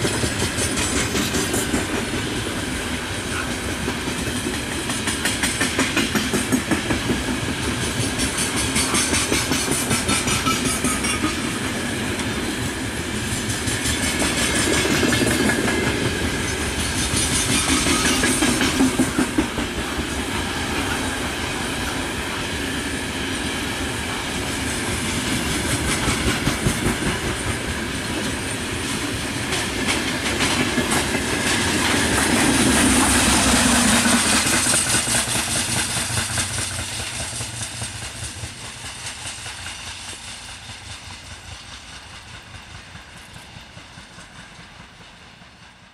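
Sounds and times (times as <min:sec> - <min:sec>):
freight train rumble: 0:00.0 - 0:45.9.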